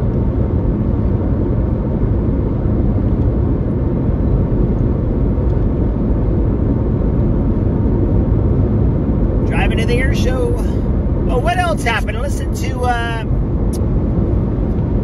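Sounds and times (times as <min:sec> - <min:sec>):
road and tyre rumble in car: 0:00.0 - 0:15.0.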